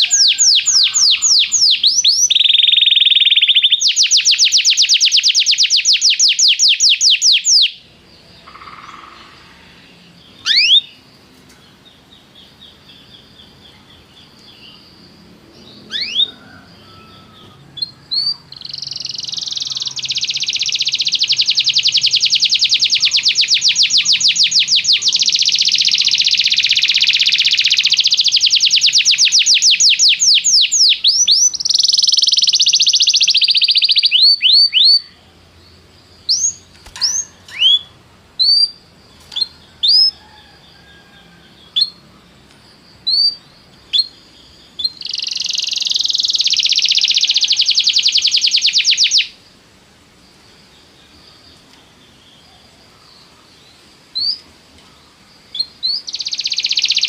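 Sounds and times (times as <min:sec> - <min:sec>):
canary singing: 0:00.0 - 0:42.2, 0:42.9 - 0:49.4, 0:55.5 - 0:57.0.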